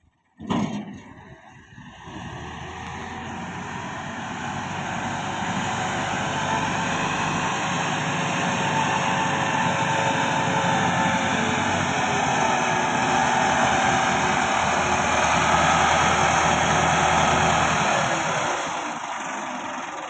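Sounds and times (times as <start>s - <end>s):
tractor diesel engine running: 0.7s - 20.0s.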